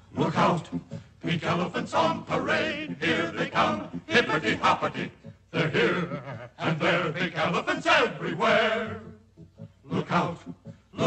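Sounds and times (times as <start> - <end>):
chorus chanting and singing: 0.0 - 11.0.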